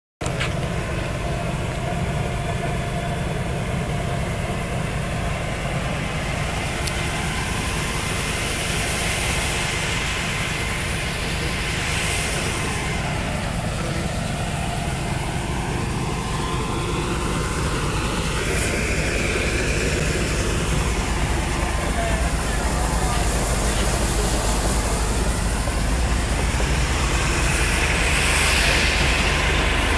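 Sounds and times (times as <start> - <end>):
combine harvester running: 0.2 - 29.9.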